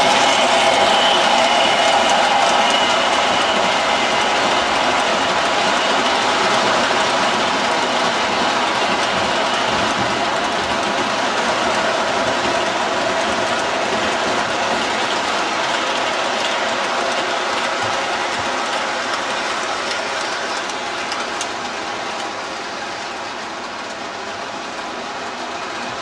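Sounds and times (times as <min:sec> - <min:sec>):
model train wheels rolling on track: 0:00.0 - 0:26.0.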